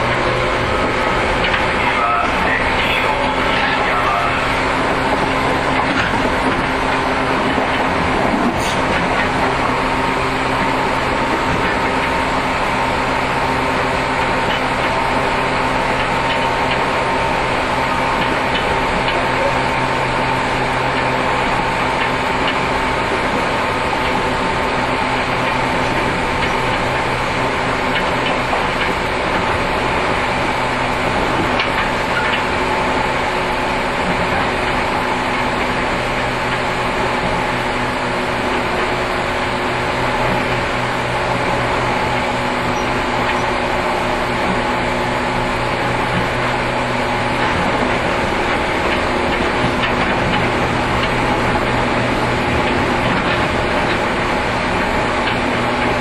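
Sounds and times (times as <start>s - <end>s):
rail and wheel noise: 0.0s - 56.0s
traction motor hum: 0.0s - 56.0s.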